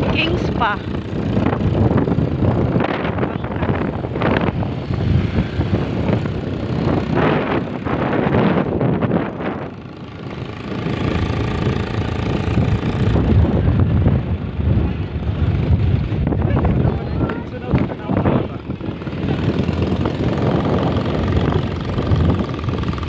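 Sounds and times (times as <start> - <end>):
motorcycle engine and road rumble: 0.0 - 23.0
wind buffeting microphone: 0.0 - 23.0.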